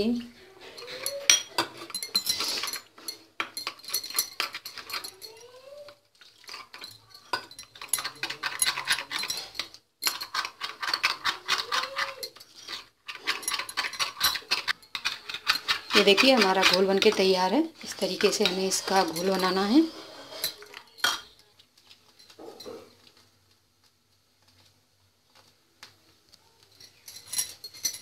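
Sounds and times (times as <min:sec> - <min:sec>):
spoon clinking and scraping glass bowl: 0:00.0 - 0:21.4, 0:26.8 - 0:28.0.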